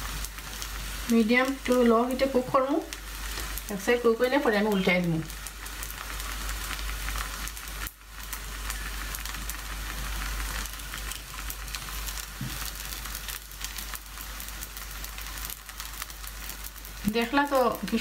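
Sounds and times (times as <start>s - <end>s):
batter sizzling in frying pan: 0.0s - 18.0s.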